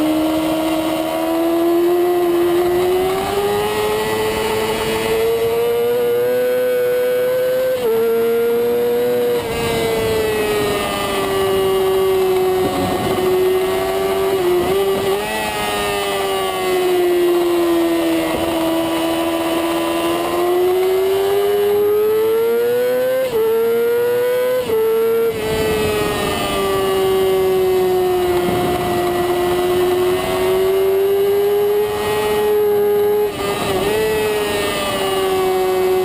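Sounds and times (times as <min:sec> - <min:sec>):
motorcycle engine revving high: 0:00.0 - 0:36.0.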